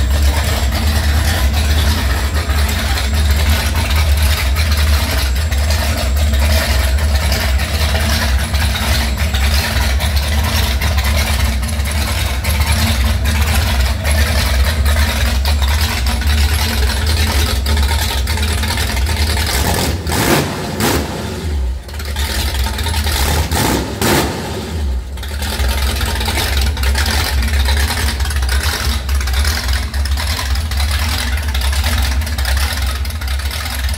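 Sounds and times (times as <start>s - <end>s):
engine running and revving: 0.0s - 33.9s.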